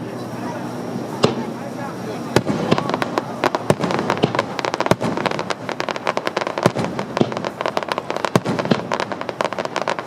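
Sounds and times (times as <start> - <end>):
fireworks cracking and banging: 0.0 - 10.0
loud firework booms: 1.2 - 1.6, 2.3 - 10.0.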